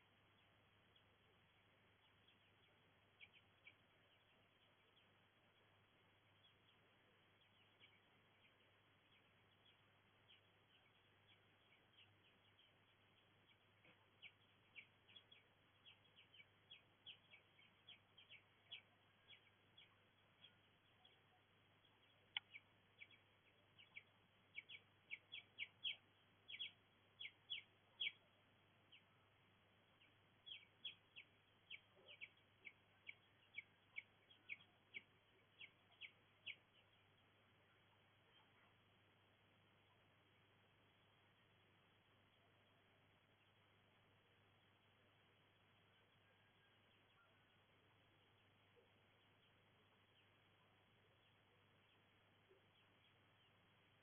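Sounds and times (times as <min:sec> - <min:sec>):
bird chirping: 0:00.0 - 0:54.0
faint background hiss: 0:00.0 - 0:54.0.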